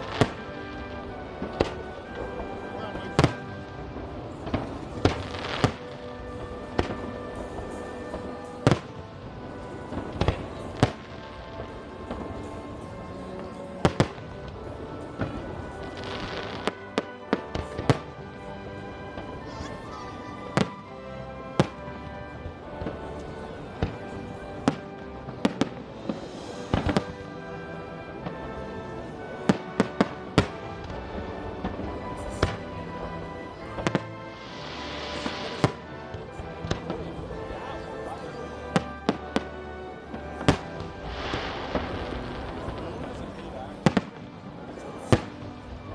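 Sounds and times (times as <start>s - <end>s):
background music: 0.0s - 45.9s
fireworks bursting bangs: 0.0s - 45.9s.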